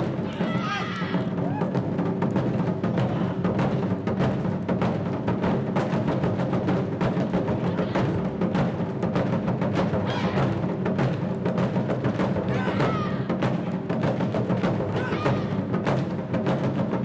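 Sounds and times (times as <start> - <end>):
taiko drums ensemble: 0.0 - 17.0.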